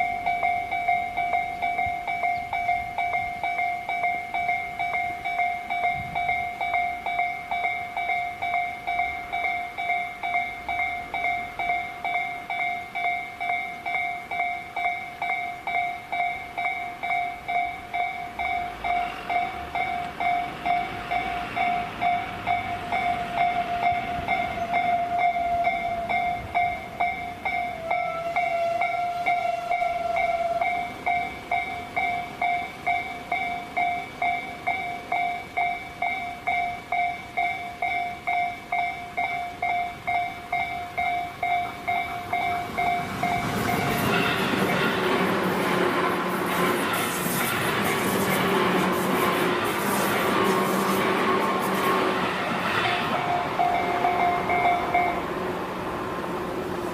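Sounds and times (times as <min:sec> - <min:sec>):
electric train passing: 0:00.0 - 0:56.9
level-crossing warning bell: 0:00.0 - 0:56.9.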